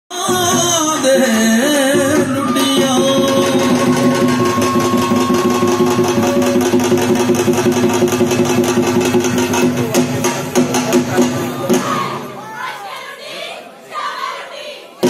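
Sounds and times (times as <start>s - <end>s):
fast steady drum beat: 0.2s - 12.4s.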